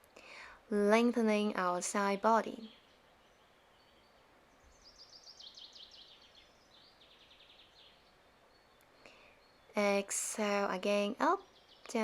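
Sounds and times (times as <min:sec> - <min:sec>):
outdoor background noise: 0:00.0 - 0:12.0
songbird singing: 0:00.9 - 0:12.0.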